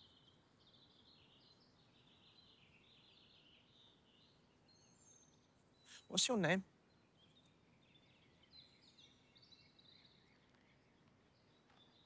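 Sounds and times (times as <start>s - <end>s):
faint distant birdsong: 0.0s - 12.0s.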